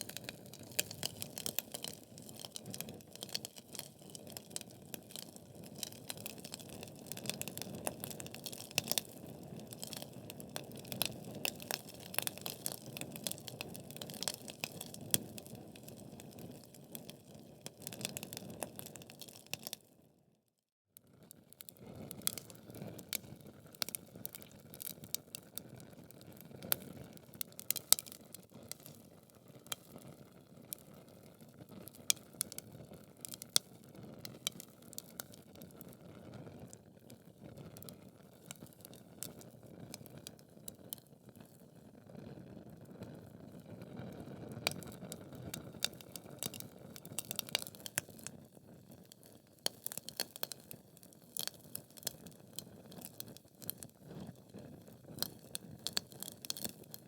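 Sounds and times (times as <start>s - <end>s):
logs crackling and popping: 0.0s - 19.8s, 21.7s - 36.0s, 37.8s - 41.6s, 44.6s - 57.0s.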